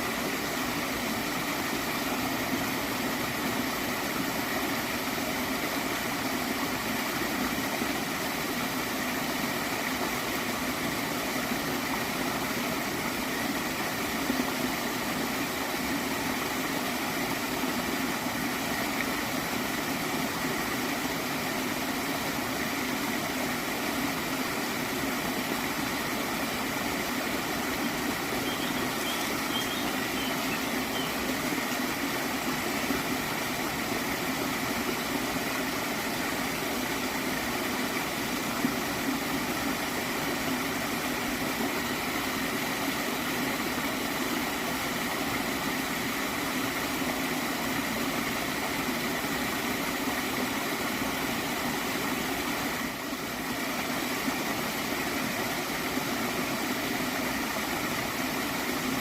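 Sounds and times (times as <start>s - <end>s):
stream gurgling: 0.0s - 59.0s.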